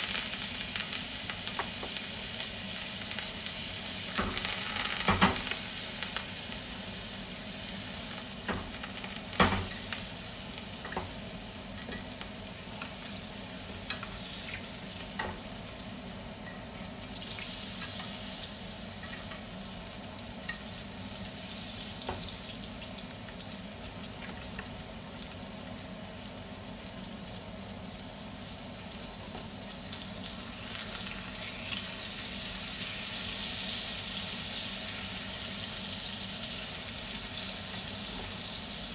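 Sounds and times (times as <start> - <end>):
steak sizzling in a skillet: 0.0 - 38.9.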